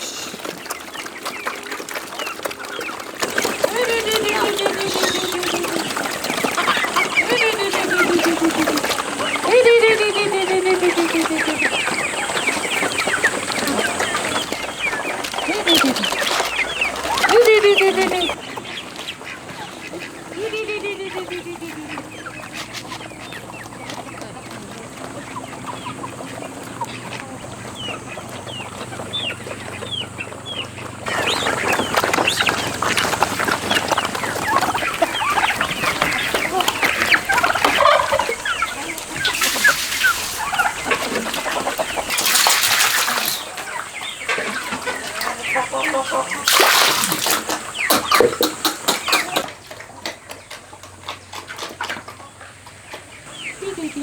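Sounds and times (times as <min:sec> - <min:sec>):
poultry clucking and chirping: 0:00.0 - 0:54.0.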